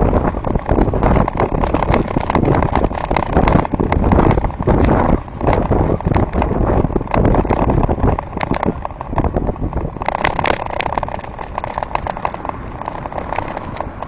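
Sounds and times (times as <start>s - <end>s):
bicycle rattling over road: 0.0s - 14.0s
wind noise on microphone: 0.0s - 14.0s.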